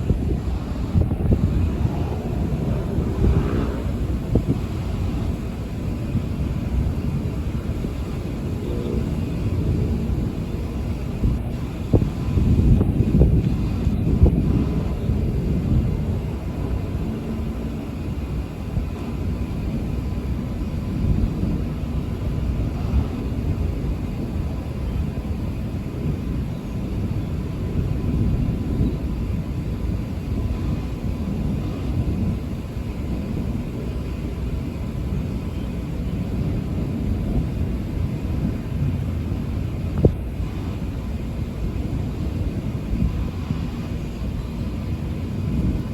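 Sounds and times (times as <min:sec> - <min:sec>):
thunder rumbling: 0:00.0 - 0:45.9.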